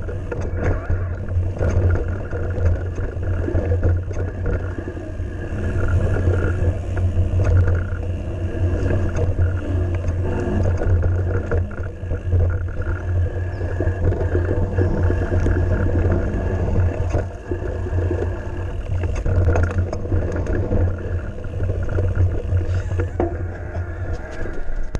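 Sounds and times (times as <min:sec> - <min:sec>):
bike clicks and rattles: 0:00.0 - 0:24.9
bike tyres on dirt: 0:00.0 - 0:24.9.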